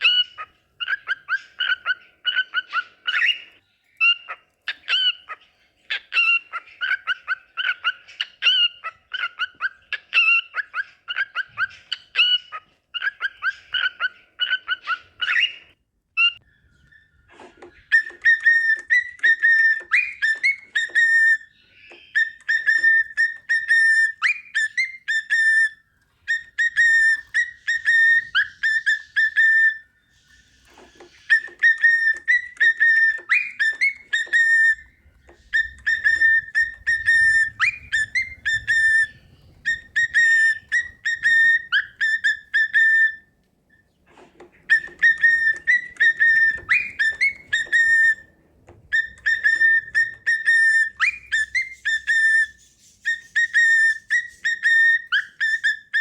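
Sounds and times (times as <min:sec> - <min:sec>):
cockatiel whistling: 0:00.0 - 0:56.0.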